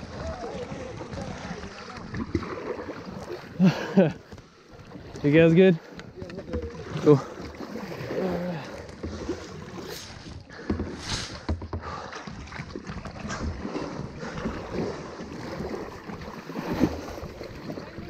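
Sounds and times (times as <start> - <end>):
paddle splashes and drips: 0.0 - 18.0.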